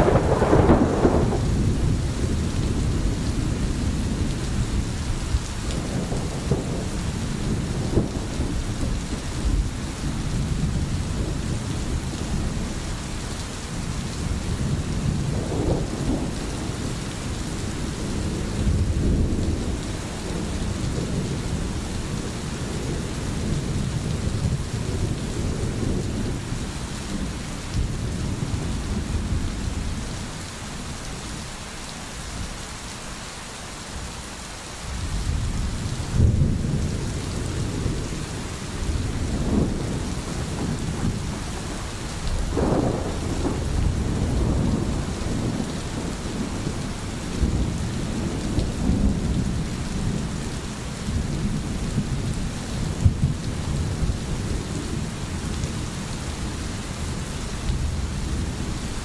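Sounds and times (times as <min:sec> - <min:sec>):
thunder rumbling: 0:00.0 - 0:30.2, 0:35.0 - 0:59.0
steady rain: 0:00.0 - 0:59.0.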